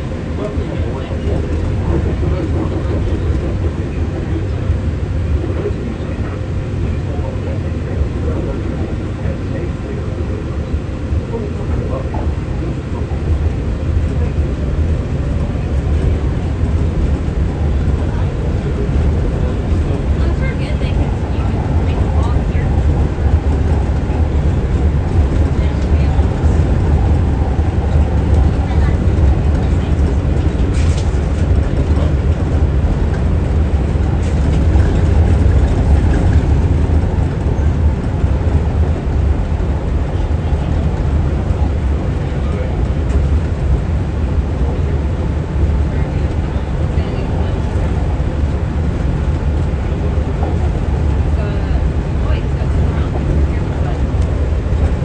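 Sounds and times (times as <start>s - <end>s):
monorail rumbling: 0.0s - 55.0s.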